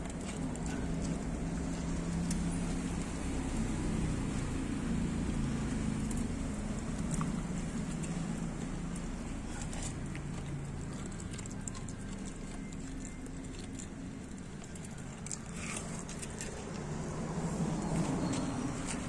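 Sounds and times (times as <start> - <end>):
dog chewing and smacking: 0.0 - 4.7, 5.4 - 19.0.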